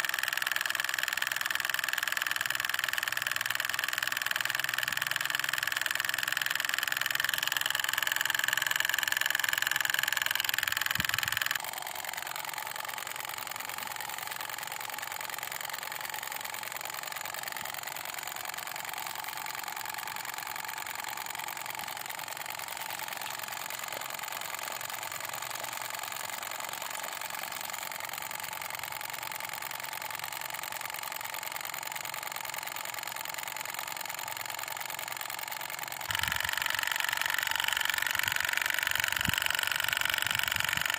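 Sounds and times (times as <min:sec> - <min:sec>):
small pump motor whining: 0:00.0 - 0:40.9.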